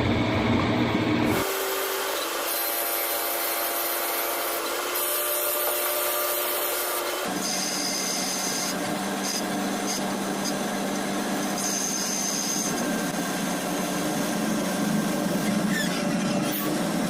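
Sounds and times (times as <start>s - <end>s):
cnc machine grinding: 1.3s - 17.0s.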